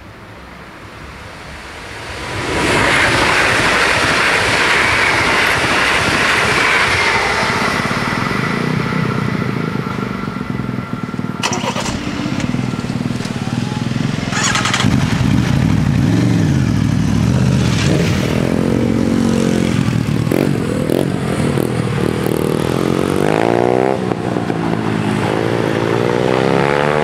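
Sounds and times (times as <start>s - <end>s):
cars moving off: 1.8s - 27.0s
motorcycle engine accelerating: 3.6s - 27.0s.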